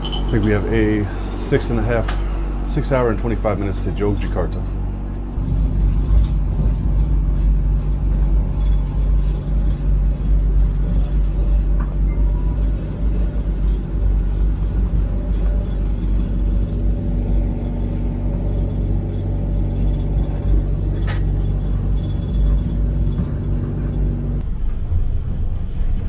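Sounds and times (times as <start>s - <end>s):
train rumble inside compartment: 0.0s - 24.5s.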